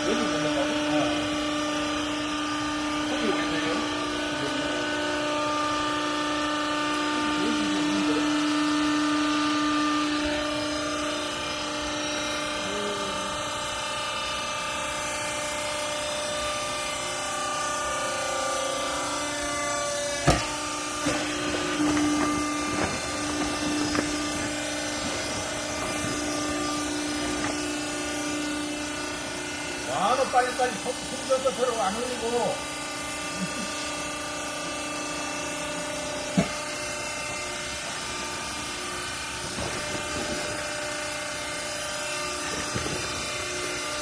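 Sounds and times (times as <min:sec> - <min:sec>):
baler machine humming: 0:00.0 - 0:44.0.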